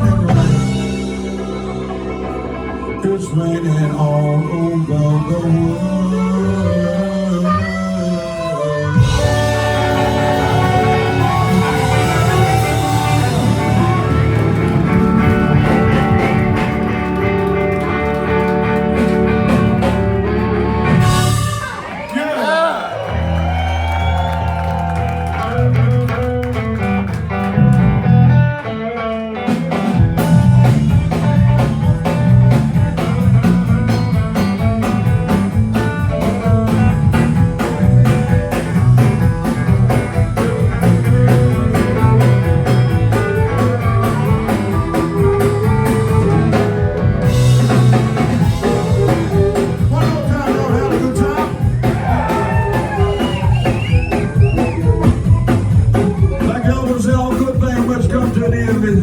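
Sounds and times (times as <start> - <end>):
drums and bass groove: 0.0 - 2.9, 5.3 - 21.9, 23.1 - 59.0
electric blues band playing: 0.0 - 22.2, 22.8 - 59.0
electric guitar: 0.0 - 22.2, 23.0 - 59.0.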